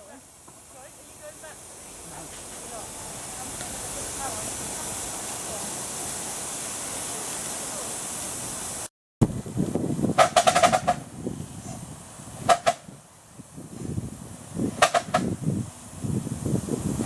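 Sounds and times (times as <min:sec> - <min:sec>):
steam engine exhaust beats: 0:00.0 - 0:17.0
steam hissing: 0:00.0 - 0:17.0.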